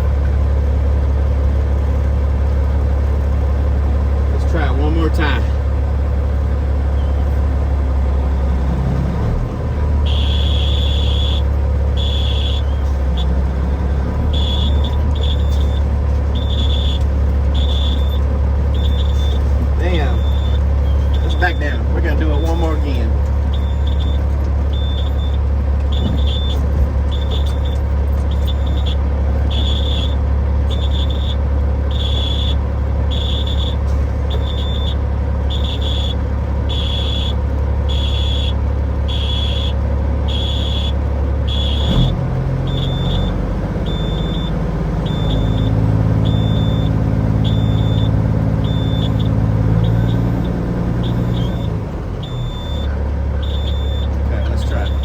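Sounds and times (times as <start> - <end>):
diesel truck engine running: 0.0 - 55.0
high reversing warning beep: 10.0 - 55.0.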